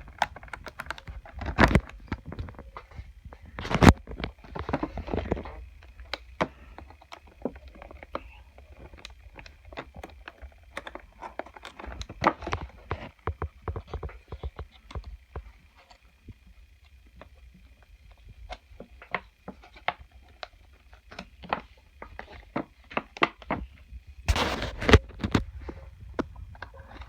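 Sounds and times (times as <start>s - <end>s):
plastic toys and packaging crinkling: 0.0s - 27.0s.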